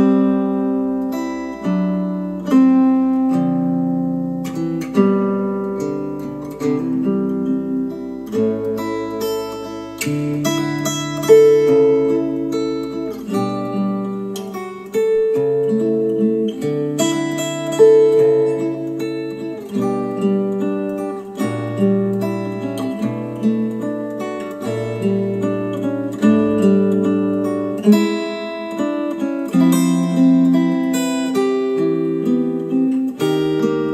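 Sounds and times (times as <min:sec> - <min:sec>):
acoustic guitar music: 0:00.0 - 0:33.9.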